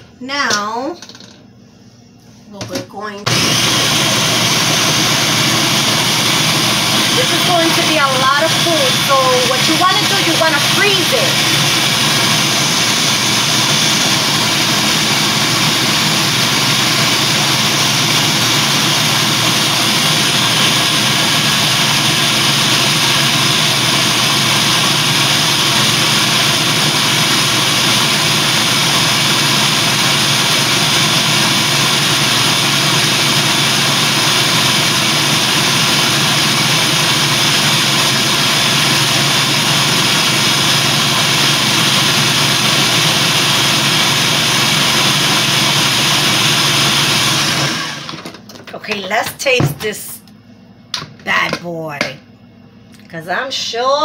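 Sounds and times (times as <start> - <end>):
electric blender running: 3.2 - 48.5.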